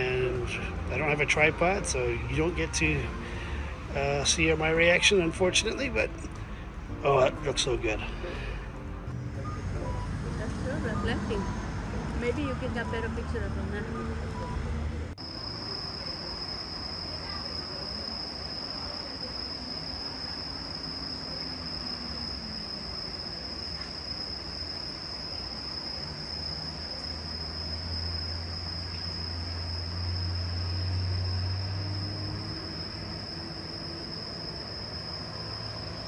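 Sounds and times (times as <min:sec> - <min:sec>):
insects trilling: 0:00.0 - 0:06.3, 0:09.8 - 0:14.6, 0:15.2 - 0:36.0.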